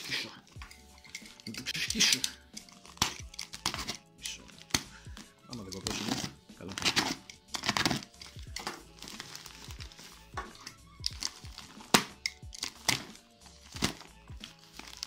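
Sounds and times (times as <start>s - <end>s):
background music with steady beat: 0.0s - 15.0s
packaging crinkling: 2.2s - 4.9s, 5.5s - 15.0s.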